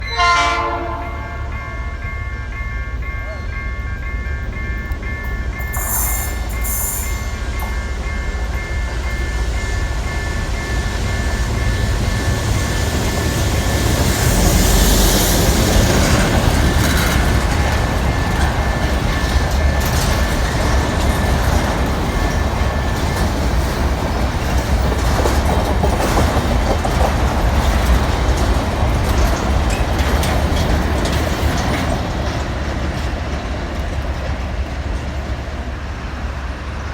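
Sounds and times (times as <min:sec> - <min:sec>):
freight train rumble: 0:00.0 - 0:36.9
wheels clicking over rail joints: 0:04.5 - 0:35.5.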